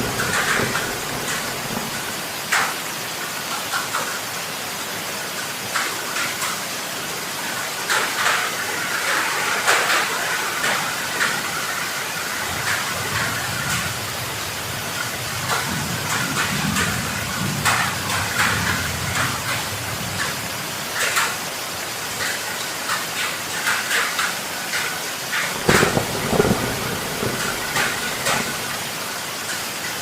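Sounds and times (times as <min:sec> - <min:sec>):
heavy rain: 0:00.0 - 0:30.0
splashes and drips: 0:00.0 - 0:30.0.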